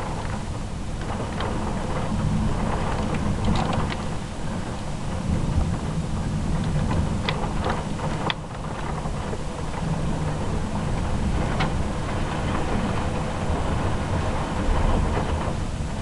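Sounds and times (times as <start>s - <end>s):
raindrop ticks: 0.0s - 15.6s
rain falling: 0.0s - 16.0s
thunder rumbling: 0.0s - 16.0s.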